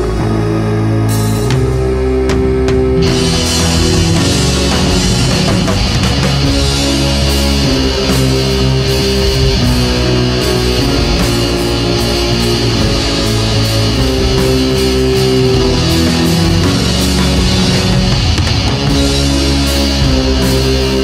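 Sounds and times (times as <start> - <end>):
heavy metal music: 0.0 - 21.0.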